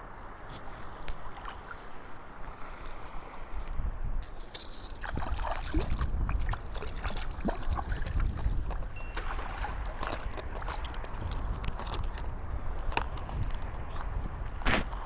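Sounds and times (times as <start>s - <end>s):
wind rumbling on microphone: 0.0s - 15.0s
water sloshing and splashing: 0.5s - 14.1s.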